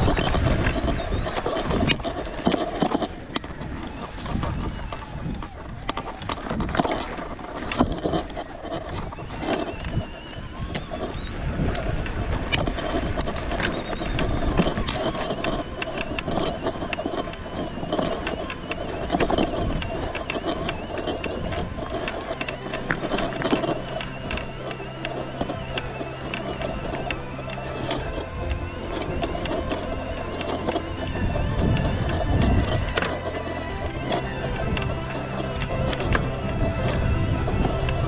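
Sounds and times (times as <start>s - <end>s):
bike rattling over bumps: 0.0s - 38.0s
electric bike motor whining: 0.0s - 38.0s
tyres rumbling on gravel: 0.0s - 38.0s.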